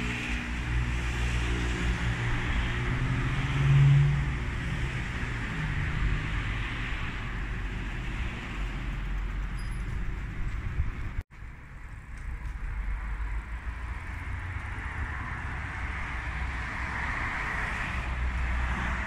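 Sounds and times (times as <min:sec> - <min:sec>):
town traffic hum: 0:00.0 - 0:19.0.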